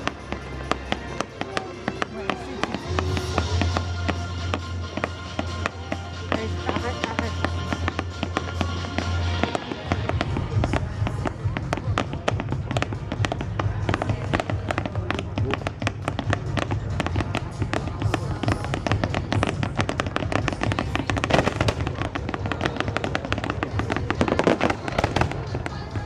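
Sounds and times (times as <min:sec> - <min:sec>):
fireworks bangs and crackles: 0:00.0 - 0:26.0
music: 0:00.0 - 0:26.0.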